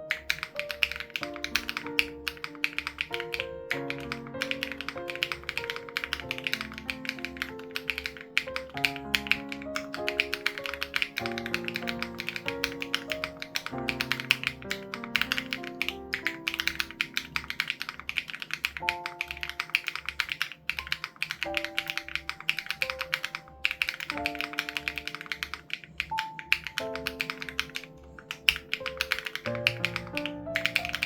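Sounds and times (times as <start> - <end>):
mechanical keyboard typing: 0.0 - 31.0
soft background music: 0.0 - 31.0.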